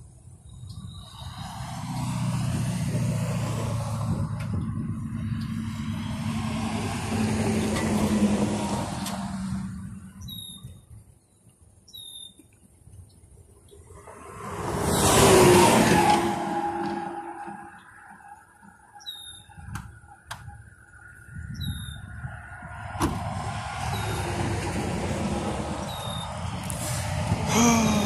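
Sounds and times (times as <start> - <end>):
vehicle passing on highway: 0.6 - 10.3, 13.7 - 28.0.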